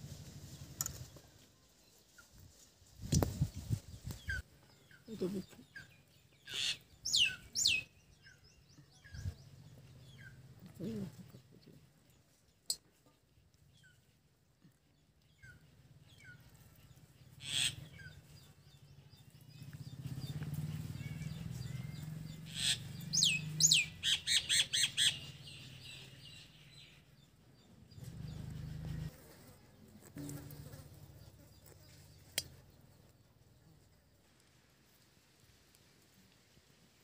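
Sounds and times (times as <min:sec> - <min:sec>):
small birds chirping: 0:00.4 - 0:34.2.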